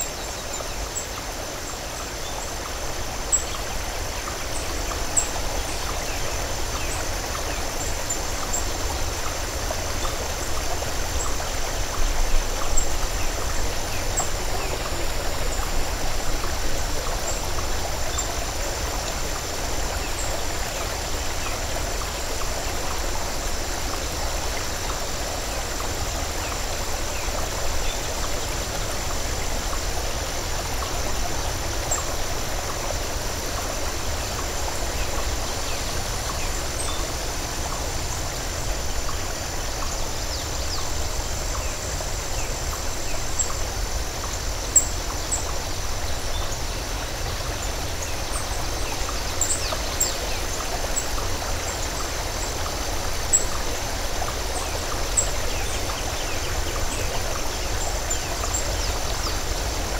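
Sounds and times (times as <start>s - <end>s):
water cascading over rocks: 0.0s - 59.9s.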